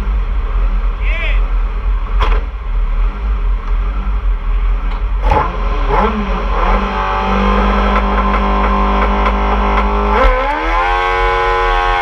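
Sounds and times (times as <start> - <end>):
race car engine rumbling: 0.0 - 12.0.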